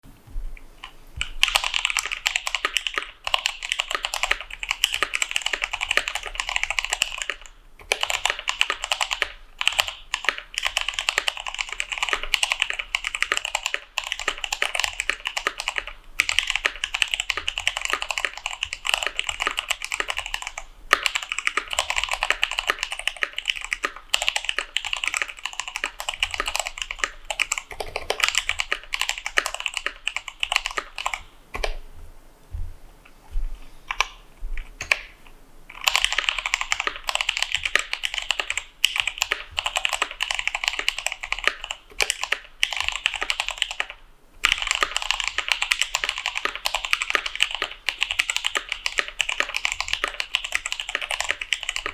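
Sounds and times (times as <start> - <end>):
mechanical keyboard typing: 0.8 - 31.8, 33.9 - 35.1, 35.7 - 51.9.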